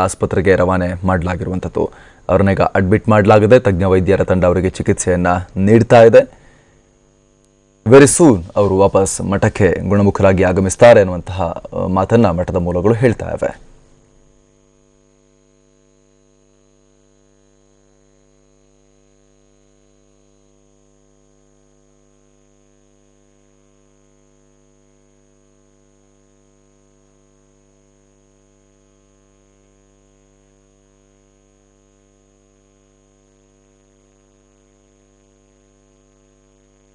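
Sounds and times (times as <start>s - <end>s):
electrical hum with high whine: 0.0s - 36.9s
soft hiss: 0.0s - 36.9s.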